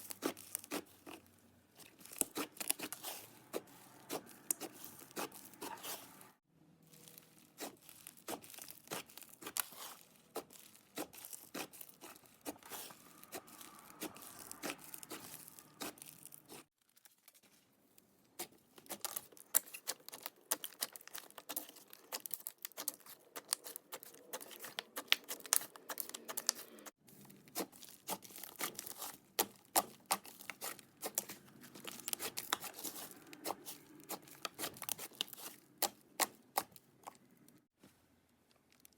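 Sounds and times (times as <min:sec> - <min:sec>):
hands kneading sticky slime: 0:00.0 - 0:06.4, 0:07.0 - 0:16.7, 0:18.3 - 0:37.8.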